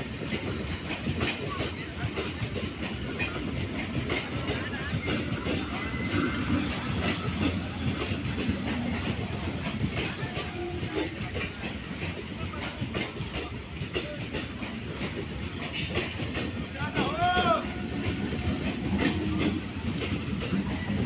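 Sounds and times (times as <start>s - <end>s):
train wheels clattering over rail joints: 0.0s - 21.0s.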